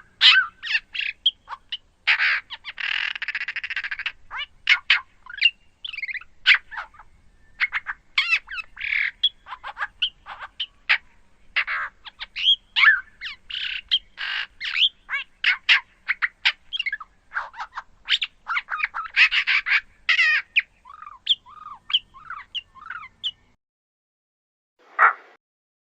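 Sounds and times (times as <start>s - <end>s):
harsh squawks and chirps: 0.0s - 11.0s, 11.6s - 23.4s.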